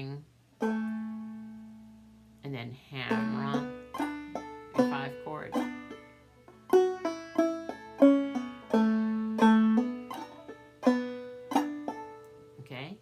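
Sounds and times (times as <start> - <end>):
banjo plucked notes and chords: 0.0 - 12.6.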